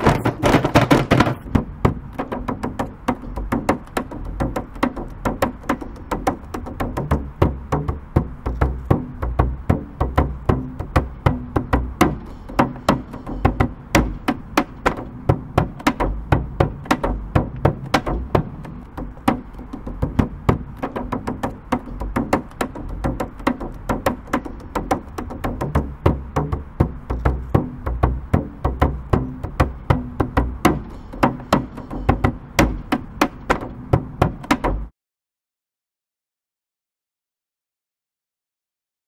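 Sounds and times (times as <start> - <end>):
drums in fast rhythm: 0.0 - 34.9.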